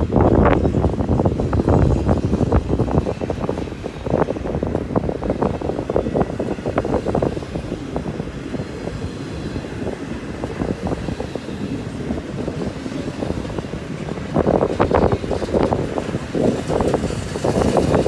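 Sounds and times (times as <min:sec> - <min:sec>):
train wheels rumbling and clicking: 0:00.0 - 0:18.0.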